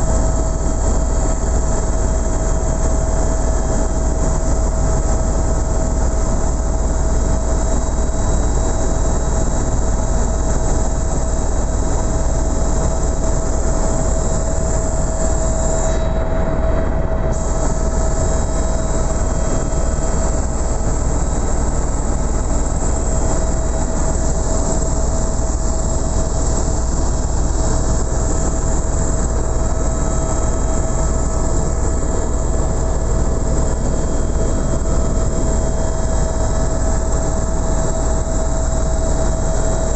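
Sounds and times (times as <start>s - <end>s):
helicopter rotor and turbine drone: 0.0s - 39.9s
turbine whine: 0.0s - 39.9s.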